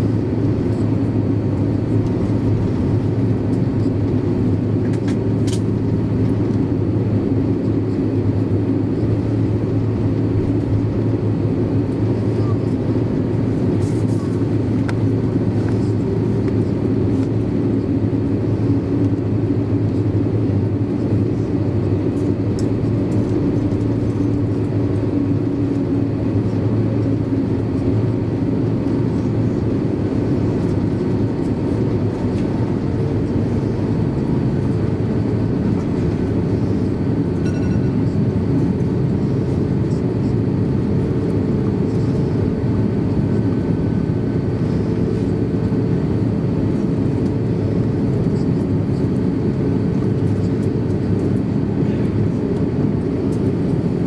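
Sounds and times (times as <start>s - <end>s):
aircraft cabin low rumble: 0.0s - 54.0s.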